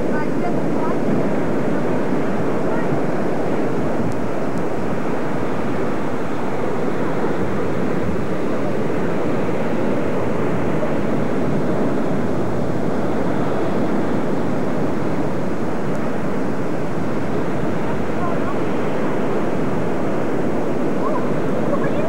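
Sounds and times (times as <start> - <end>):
surf breaking on rocky shore: 0.0 - 22.0.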